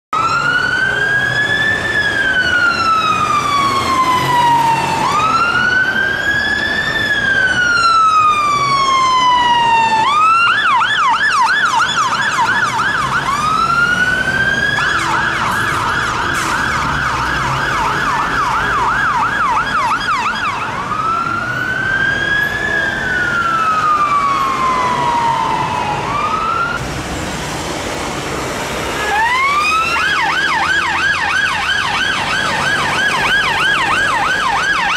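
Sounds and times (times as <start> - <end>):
emergency vehicle siren: 0.1 - 34.9
low rumble of traffic: 0.1 - 34.9.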